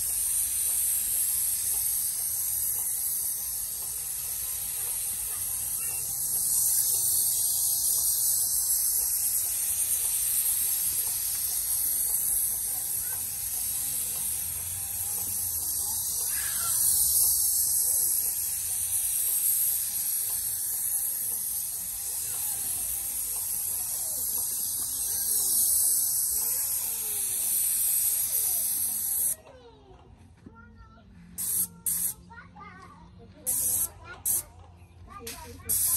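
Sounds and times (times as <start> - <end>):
paint spray gun hissing: 0.0 - 29.4, 31.4 - 32.2, 33.4 - 34.5, 35.2 - 35.9.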